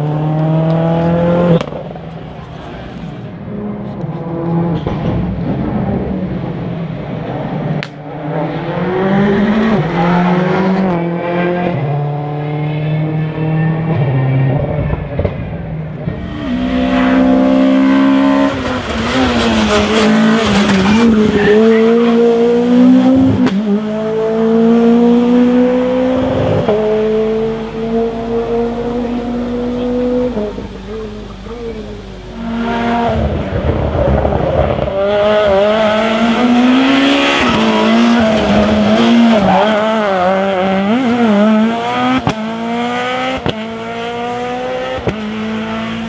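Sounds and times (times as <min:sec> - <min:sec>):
rally car engines revving: 0:00.0 - 0:46.0.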